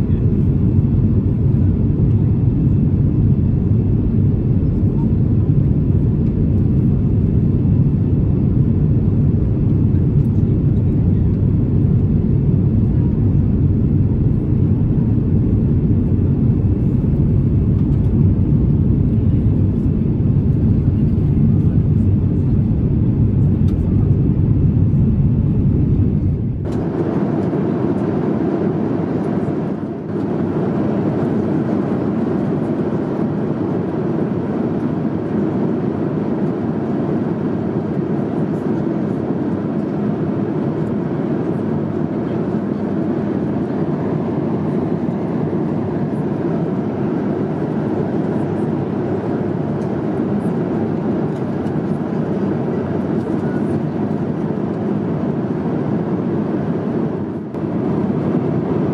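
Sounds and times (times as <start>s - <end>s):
airliner cabin rumble: 0.0s - 58.9s.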